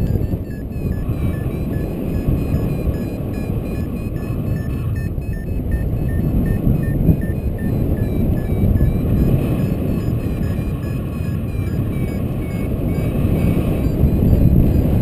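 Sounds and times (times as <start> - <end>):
loud wind on microphone: 0.0 - 15.0
variometer beeping: 0.0 - 15.0.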